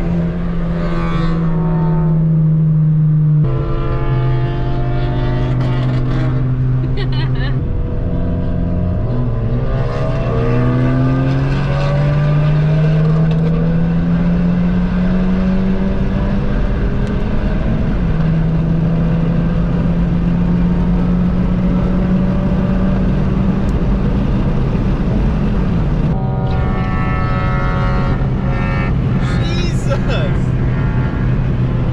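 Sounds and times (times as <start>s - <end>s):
loud car engine accelerating: 0.0s - 31.9s.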